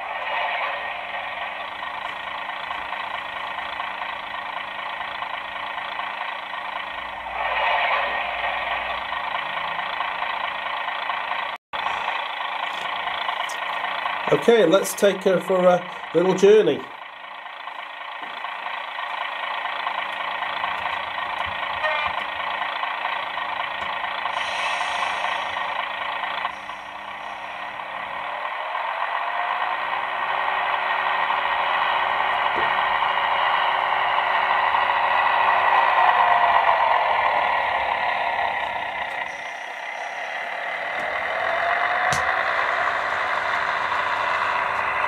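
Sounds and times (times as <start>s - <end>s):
model train diesel engine sound: 0.0s - 45.0s.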